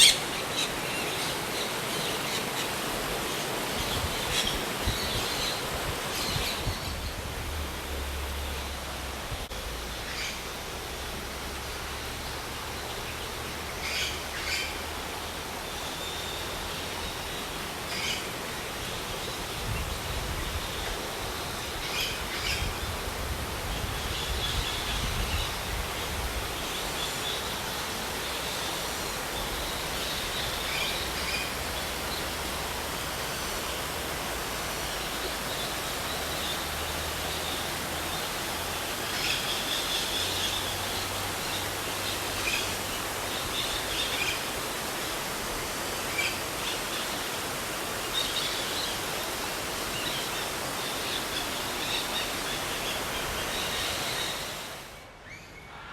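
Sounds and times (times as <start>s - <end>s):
birds calling: 0.0s - 55.9s.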